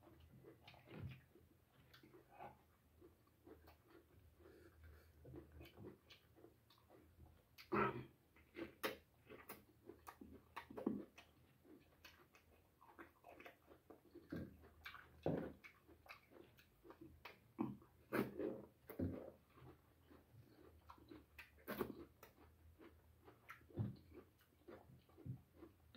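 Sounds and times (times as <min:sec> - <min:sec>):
wet chewing and lip-smacking: 0:00.0 - 0:25.9.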